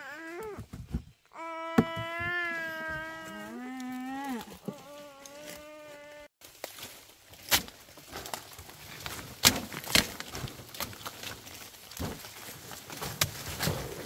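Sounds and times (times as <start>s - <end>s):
rustling: 2.0s - 14.0s.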